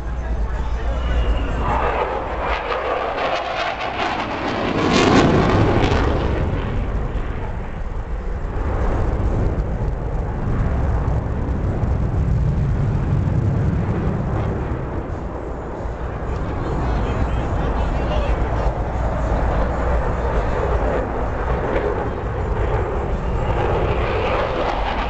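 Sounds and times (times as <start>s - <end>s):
jet fighter flying past: 0.0s - 25.0s.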